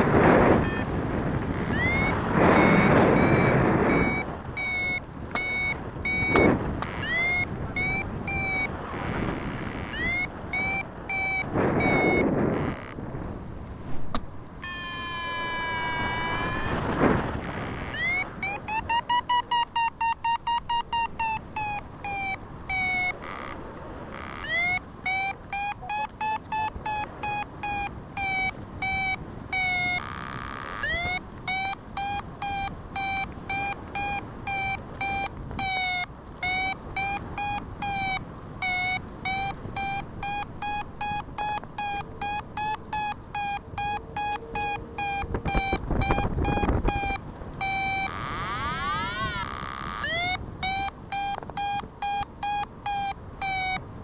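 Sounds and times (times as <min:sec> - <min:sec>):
variometer beeping: 0:00.0 - 0:13.0, 0:14.1 - 0:54.0.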